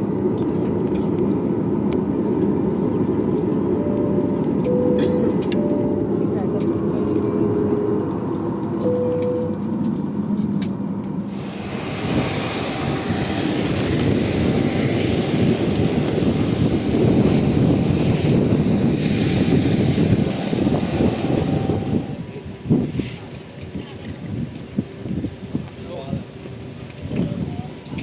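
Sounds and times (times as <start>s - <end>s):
jet engine roar with whine: 0.0s - 27.1s.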